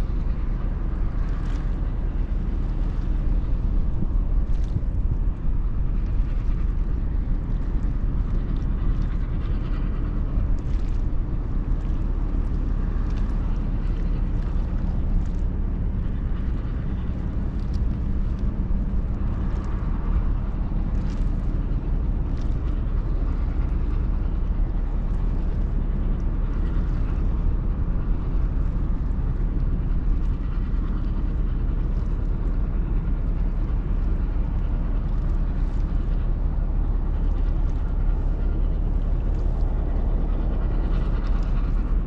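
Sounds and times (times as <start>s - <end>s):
ferry engines rumbling: 0.0s - 42.0s.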